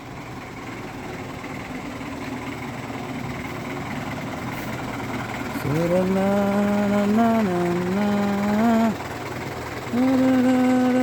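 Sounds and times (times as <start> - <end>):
old car engine running: 0.0 - 11.0.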